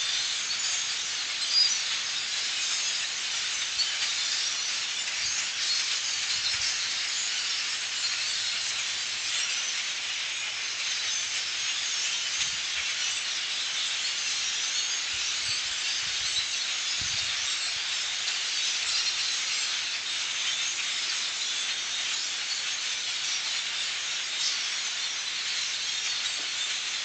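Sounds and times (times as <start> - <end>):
flock of birds calling: 0.0 - 27.0.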